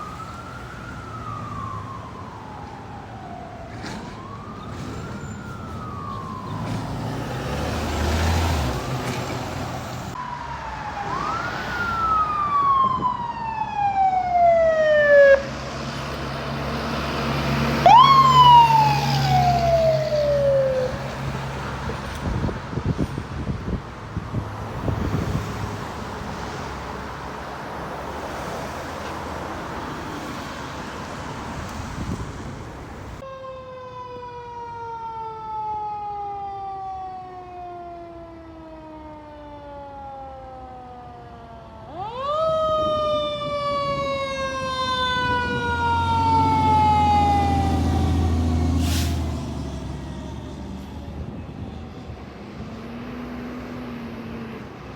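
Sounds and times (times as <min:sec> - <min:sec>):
fire truck siren wailing: 0:00.0 - 0:53.0
traffic noise: 0:00.0 - 0:54.9.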